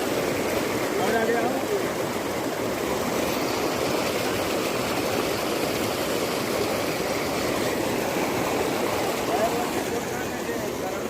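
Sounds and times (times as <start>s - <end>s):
floodwater rushing in river: 0.0s - 11.0s.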